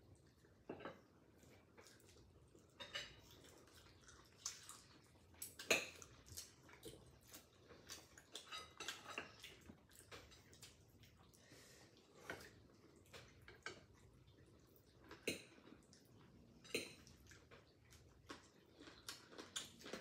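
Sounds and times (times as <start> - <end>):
people chewing: 0.1 - 20.0.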